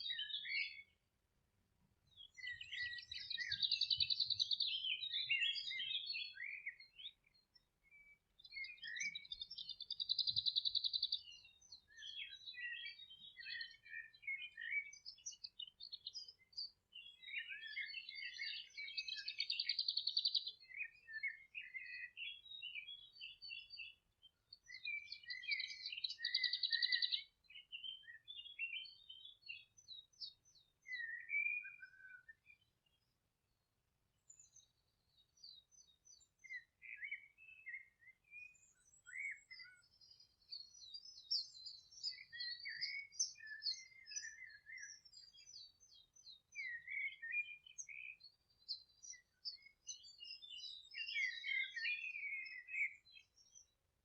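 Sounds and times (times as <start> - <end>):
songbird singing trills: 0.0 - 1.1, 2.0 - 33.2, 34.2 - 53.8.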